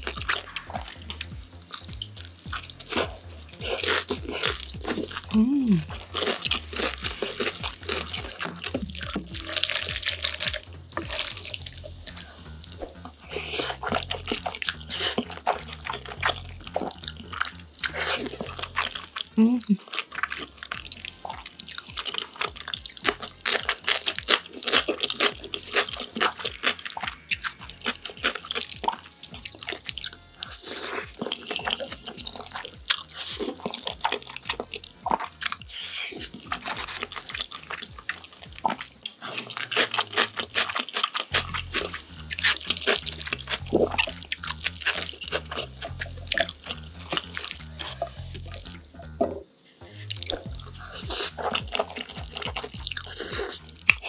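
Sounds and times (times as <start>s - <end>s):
noodles slurped and chewed: 0.0s - 54.0s.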